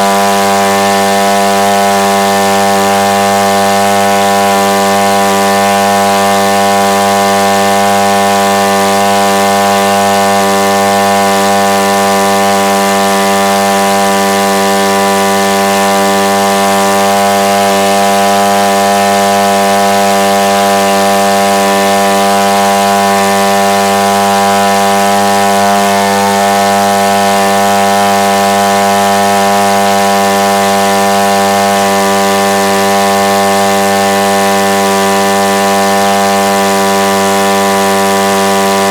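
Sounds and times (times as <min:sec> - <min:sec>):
chainsaw engine running steadily: 0:00.0 - 0:38.9.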